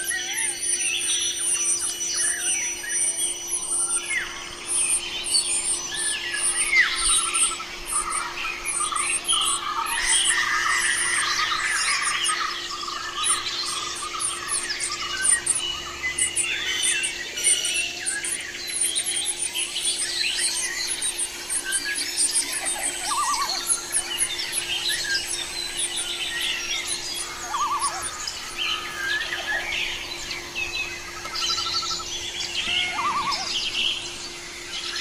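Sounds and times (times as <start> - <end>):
faint steady hum: 0.0 - 35.0
small birds chirping: 0.0 - 35.0
insect ticking: 0.1 - 30.1.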